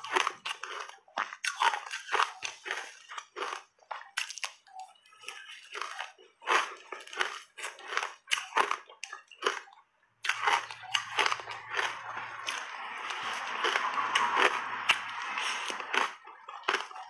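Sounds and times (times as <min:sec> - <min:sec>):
crunching shaved ice: 0:00.0 - 0:04.6, 0:05.2 - 0:09.7, 0:10.3 - 0:17.0.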